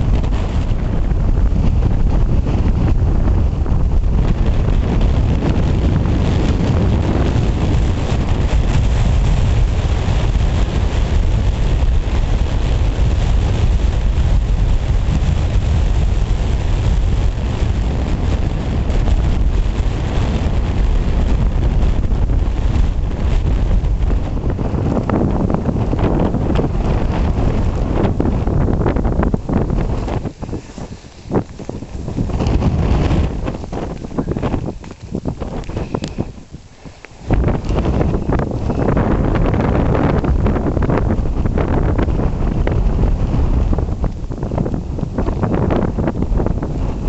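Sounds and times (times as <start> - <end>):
gale wind buffeting microphone: 0.0 - 47.0.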